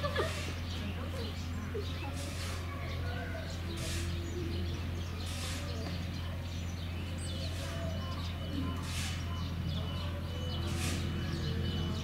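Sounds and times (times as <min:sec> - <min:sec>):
faint bird chirps: 0:00.4 - 0:12.0.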